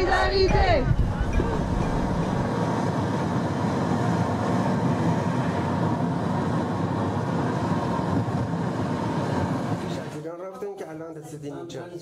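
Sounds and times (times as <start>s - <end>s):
car road and engine noise: 0.0s - 10.1s.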